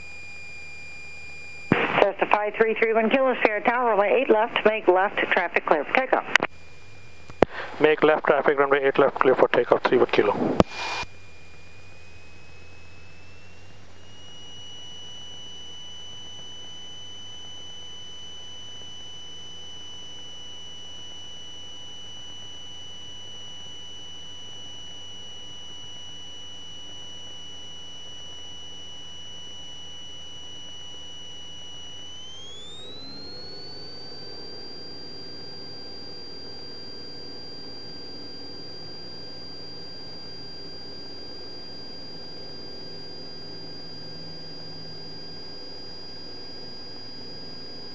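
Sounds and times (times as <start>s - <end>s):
high-pitched engine whine: 0.0s - 47.9s.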